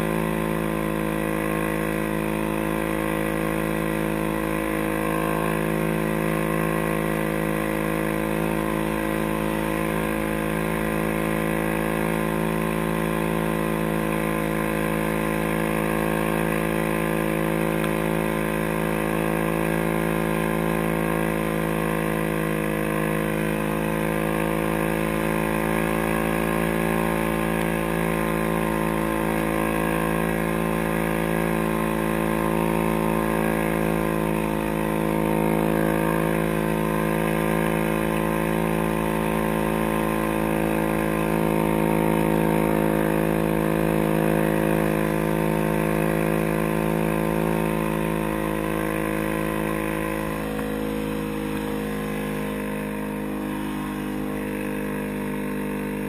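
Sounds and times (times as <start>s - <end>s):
atv engine cruising: 0.0s - 56.0s.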